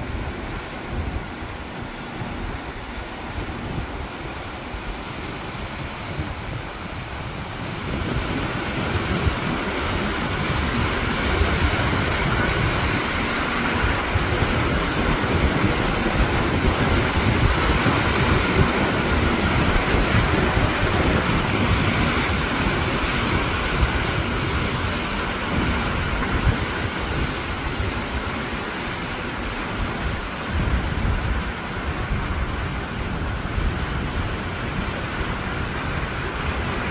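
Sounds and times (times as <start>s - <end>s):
sea waves washing ashore: 0.0s - 36.9s
wind gusting on microphone: 0.0s - 36.9s.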